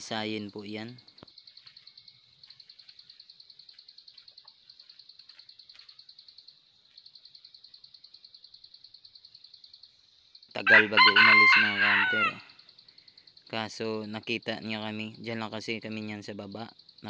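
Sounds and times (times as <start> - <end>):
insect chirping trill: 0.0 - 17.0.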